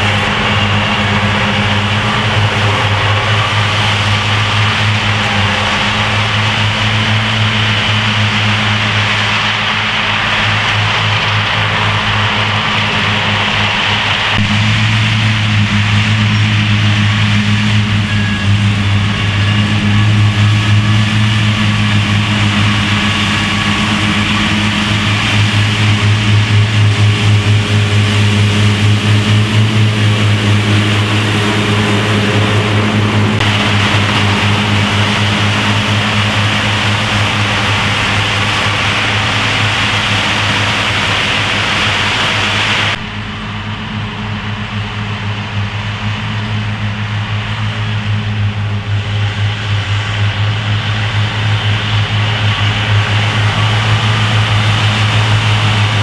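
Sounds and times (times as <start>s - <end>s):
machine whirring: 0.0s - 56.0s
mower engine hum: 0.0s - 56.0s.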